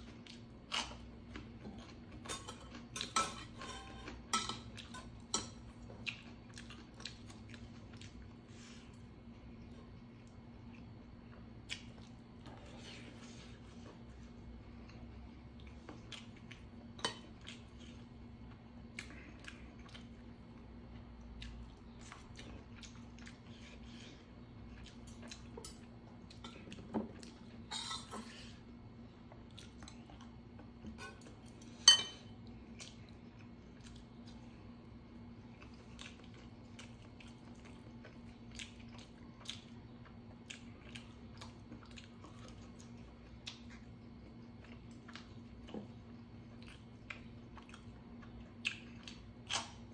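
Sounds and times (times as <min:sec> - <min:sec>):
person chewing: 0:00.0 - 0:28.6, 0:29.2 - 0:31.8, 0:32.4 - 0:49.9
faint steady hum: 0:00.0 - 0:49.9.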